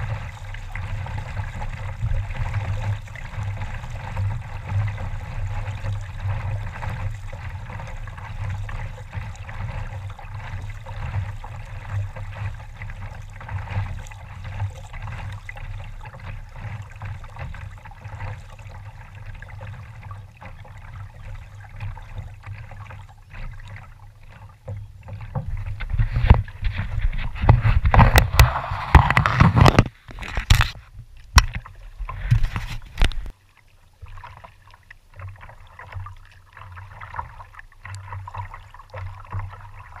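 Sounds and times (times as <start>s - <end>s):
paddle strokes: 0.0s - 40.0s
uneven water splashes: 0.0s - 40.0s
water swishing along hull: 0.0s - 40.0s.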